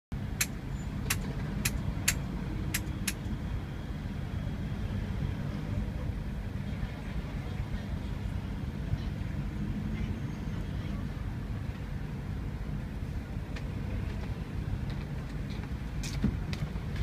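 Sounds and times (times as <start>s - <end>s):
bus engine rumble: 0.1s - 17.0s.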